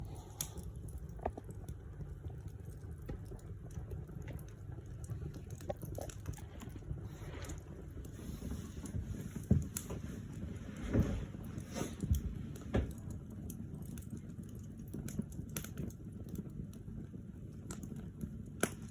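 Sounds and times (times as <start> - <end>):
log fire crackling: 0.0 - 18.9.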